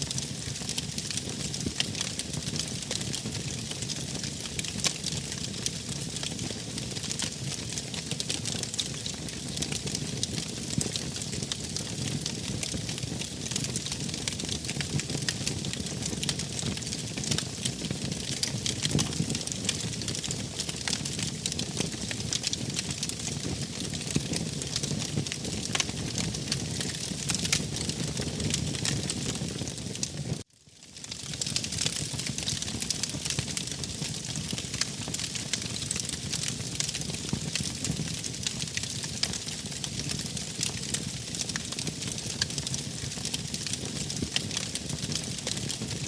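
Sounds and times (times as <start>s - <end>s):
fire crackling and popping: 0.0s - 46.0s.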